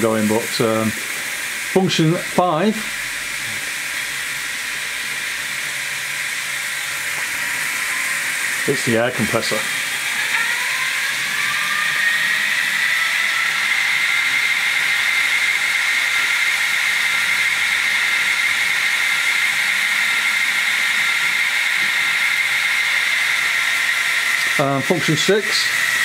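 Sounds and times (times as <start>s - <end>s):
air compressor hiss and whine: 0.0s - 26.0s.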